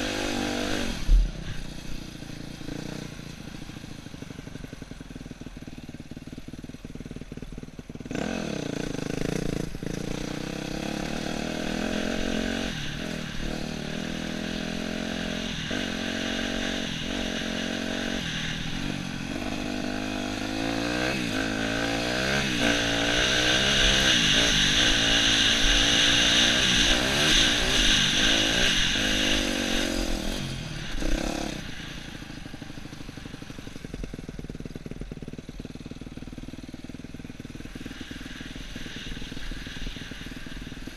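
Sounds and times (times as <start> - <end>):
dirt bike engine revving: 0.0 - 3.8, 8.0 - 40.9.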